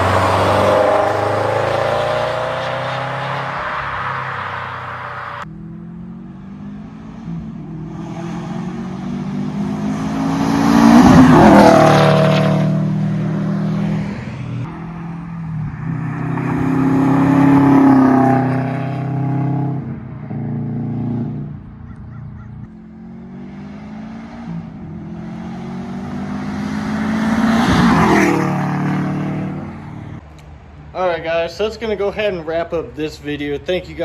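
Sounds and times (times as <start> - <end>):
car engine revving: 0.0 - 30.2.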